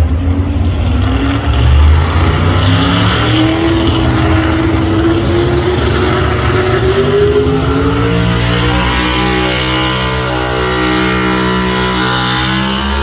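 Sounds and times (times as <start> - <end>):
truck engine at full throttle: 0.0 - 13.0.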